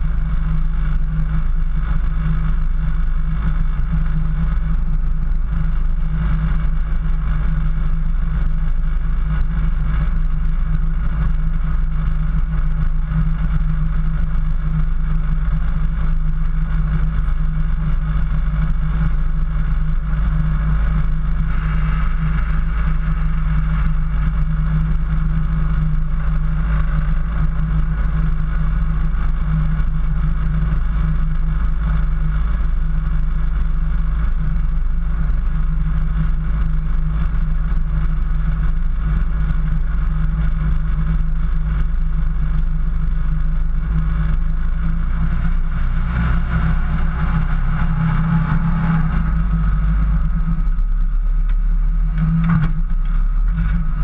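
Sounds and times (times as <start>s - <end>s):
engine droning rumble: 0.0s - 54.0s.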